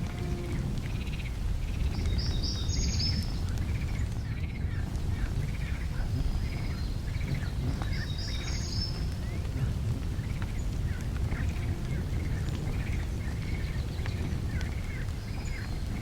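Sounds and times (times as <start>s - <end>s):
bird calls: 0.0s - 16.0s
steady low rumble: 0.0s - 16.0s.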